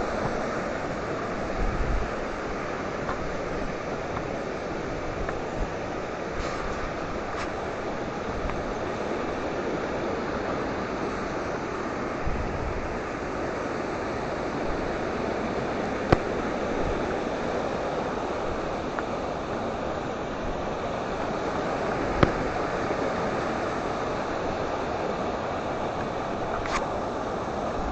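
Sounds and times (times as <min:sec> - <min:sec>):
river rapids rushing: 0:00.0 - 0:27.9.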